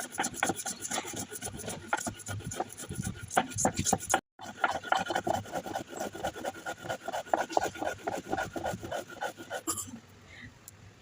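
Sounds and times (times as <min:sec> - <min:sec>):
rhythmic back-and-forth scraping: 0:00.0 - 0:09.9.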